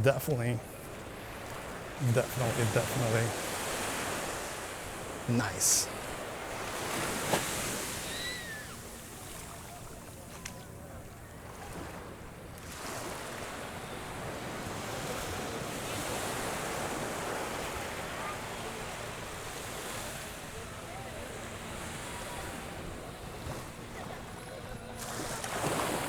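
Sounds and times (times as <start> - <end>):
waves washing on sandy beach: 0.0 - 26.0.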